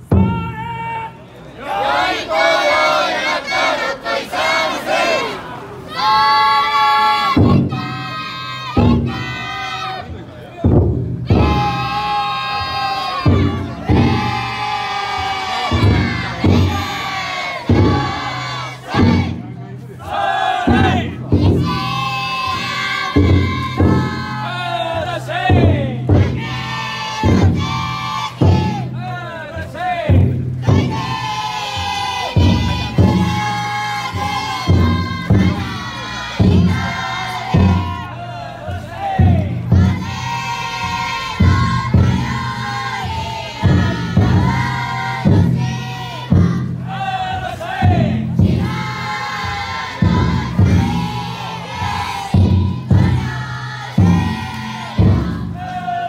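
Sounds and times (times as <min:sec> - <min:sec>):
big drum booming beats: 0:00.0 - 0:00.9, 0:07.2 - 0:56.0
people shouting: 0:00.1 - 0:10.7, 0:11.3 - 0:19.4, 0:20.0 - 0:56.0
children chanting: 0:01.6 - 0:10.1, 0:11.3 - 0:25.3, 0:26.1 - 0:28.9, 0:30.6 - 0:56.0.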